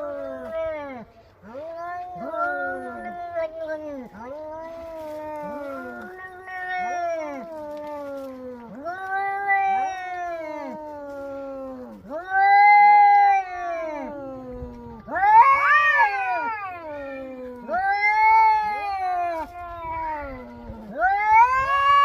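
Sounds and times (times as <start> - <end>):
cats yowling: 0.0 - 22.0.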